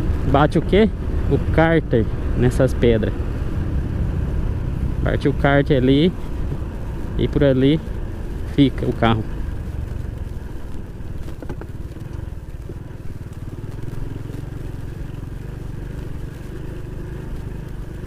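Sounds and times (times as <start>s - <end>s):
motorcycle engine running: 0.0s - 18.0s
road noise: 0.0s - 18.0s.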